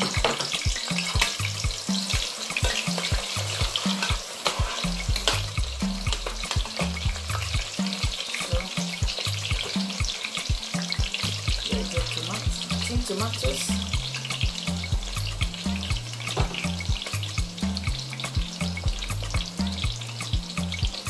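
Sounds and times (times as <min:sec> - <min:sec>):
metal spatula stirring in pot: 0:00.0 - 0:20.1
onions sizzling in hot oil: 0:00.0 - 0:21.0.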